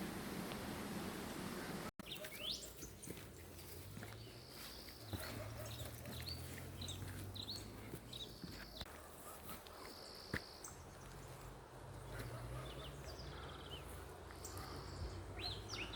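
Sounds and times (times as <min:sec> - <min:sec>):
songbirds chirping: 0:00.1 - 0:15.9.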